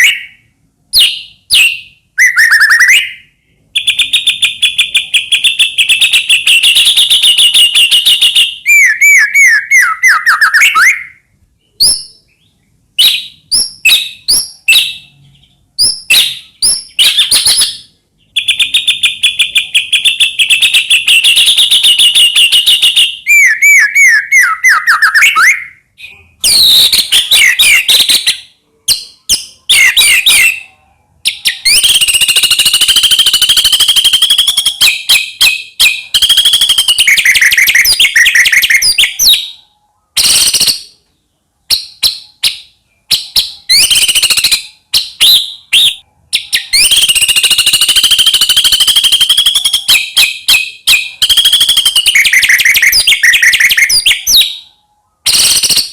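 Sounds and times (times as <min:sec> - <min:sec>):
songbird singing loudly: 0:00.0 - 0:41.0, 0:41.6 - 0:55.9.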